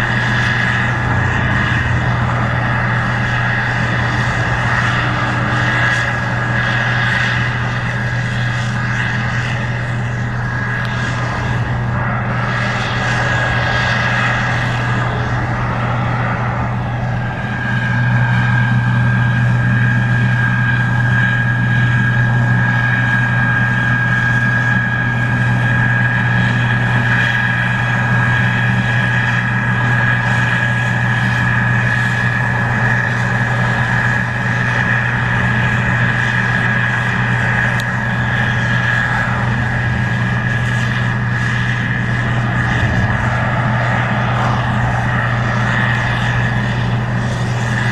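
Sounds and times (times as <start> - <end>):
combine engine drone: 0.0 - 47.9
high machinery whine: 0.0 - 47.9.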